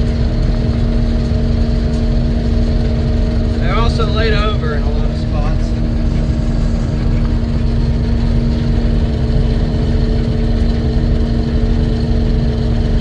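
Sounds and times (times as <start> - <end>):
combine harvester machinery drone: 0.0 - 13.0.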